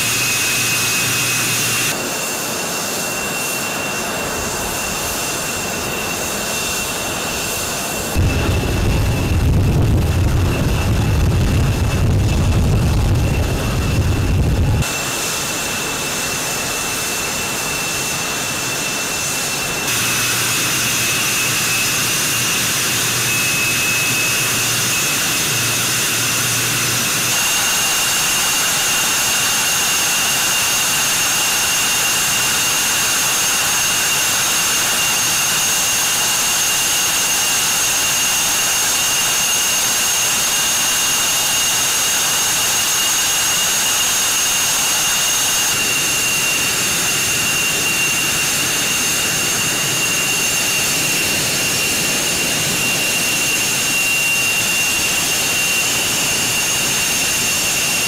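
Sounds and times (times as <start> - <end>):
jet engine whine: 0.0 - 58.0
jet exhaust rush: 0.0 - 58.0.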